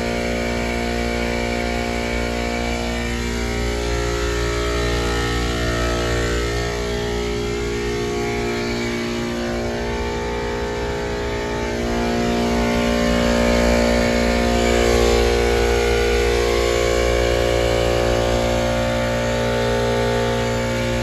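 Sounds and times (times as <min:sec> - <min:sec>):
compressor humming: 0:00.0 - 0:21.0.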